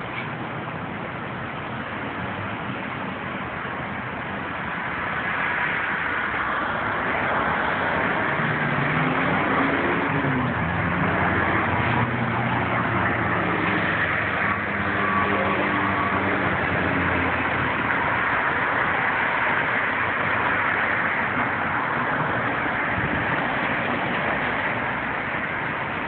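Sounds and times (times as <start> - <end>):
vehicle engine and tyres: 0.0 - 26.0.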